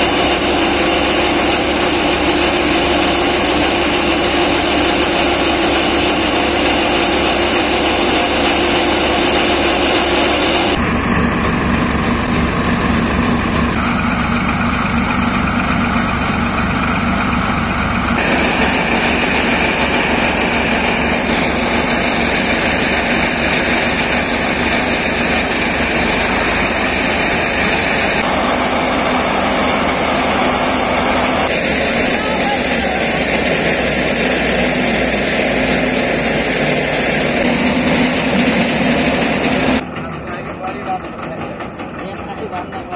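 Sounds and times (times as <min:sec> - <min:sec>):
thresher drum and fans whirring: 0:00.0 - 0:42.9
tractor diesel engine running: 0:00.0 - 0:42.9.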